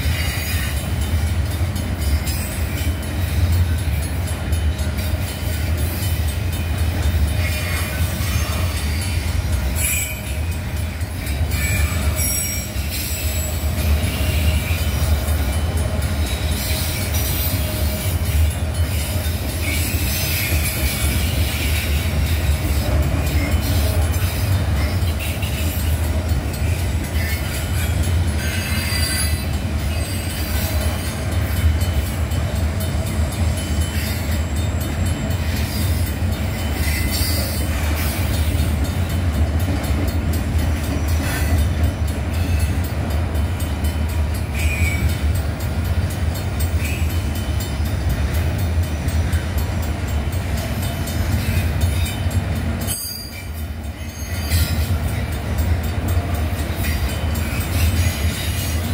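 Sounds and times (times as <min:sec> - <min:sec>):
train wheel squeals: 0:00.0 - 0:58.9
train wheels rumbling on rails: 0:00.0 - 0:58.9.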